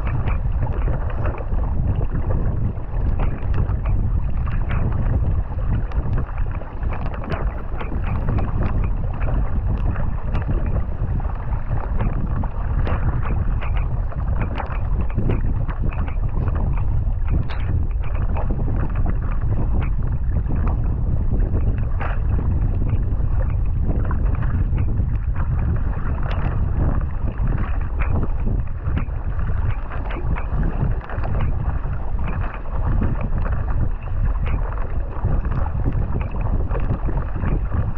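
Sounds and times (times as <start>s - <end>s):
paddle blades splashing water: 0.0s - 37.9s
wind buffeting microphone: 0.0s - 37.9s.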